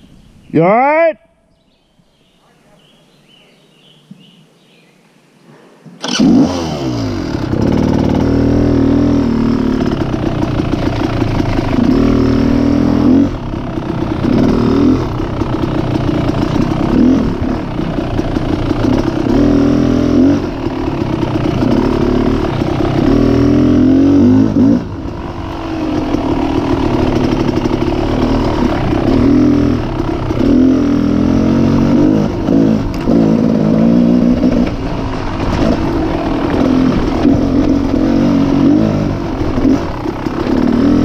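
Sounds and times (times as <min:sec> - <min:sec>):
off-road vehicle engine revving: 0:06.0 - 0:41.0.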